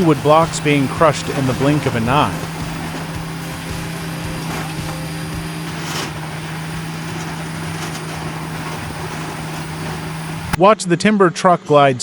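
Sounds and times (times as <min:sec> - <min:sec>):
wood grinder grinding: 0:00.0 - 0:10.6
engine hum: 0:00.0 - 0:12.0.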